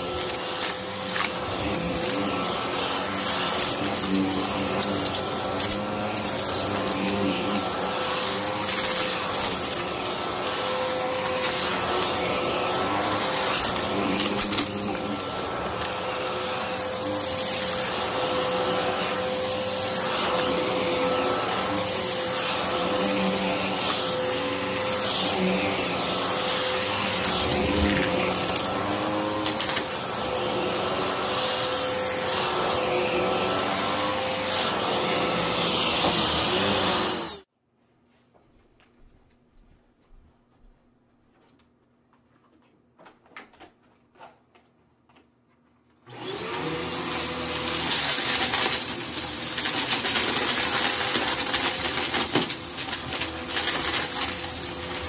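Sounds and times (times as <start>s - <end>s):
vacuum cleaner running: 0.0s - 37.5s, 46.1s - 55.0s.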